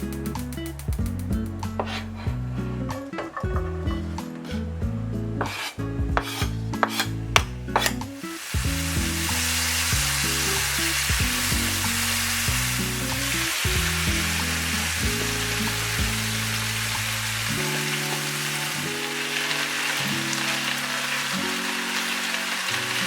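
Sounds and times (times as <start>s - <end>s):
sizzling hiss: 0.0s - 2.9s, 5.4s - 23.0s
soft background music: 0.0s - 23.0s.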